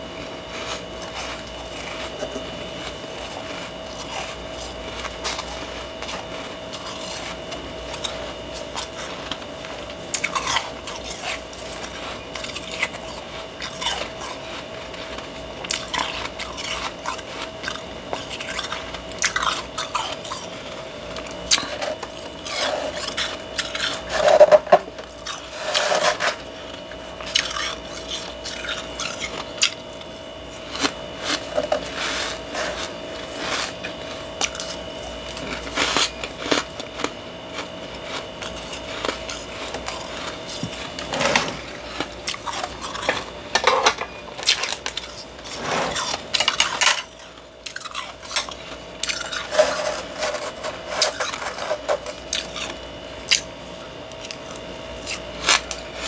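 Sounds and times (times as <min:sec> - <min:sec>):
freezer frost crunching: 0:00.0 - 0:56.0
steady thin hum: 0:00.0 - 0:56.0.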